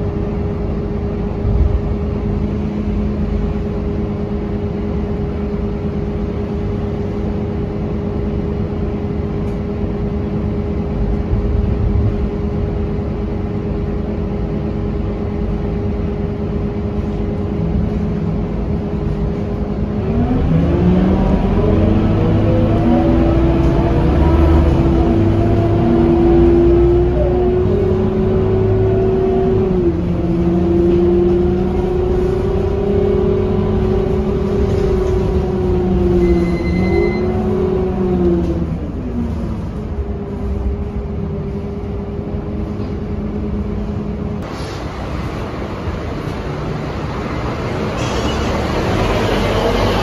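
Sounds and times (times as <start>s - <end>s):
bus engine and driveline whine: 0.0s - 50.0s.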